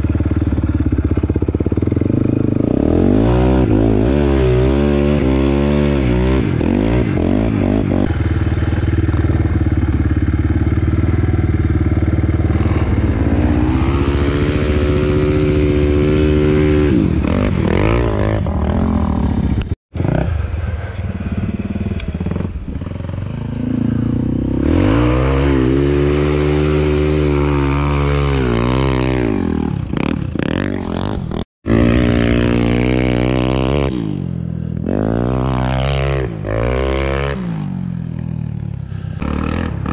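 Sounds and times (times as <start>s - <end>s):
quad engine revving: 0.0s - 20.5s, 21.3s - 39.9s.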